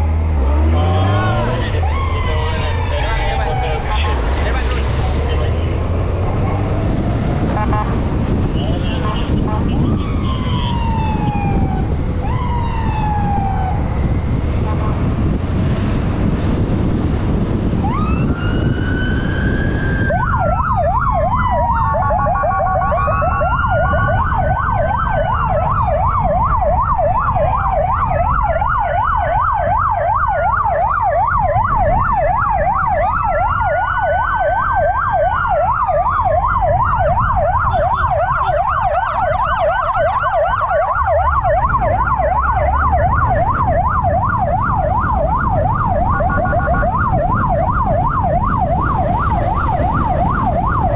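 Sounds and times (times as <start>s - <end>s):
motorcycle engine rumble: 0.0s - 50.9s
police siren yelping and wailing: 0.3s - 50.9s.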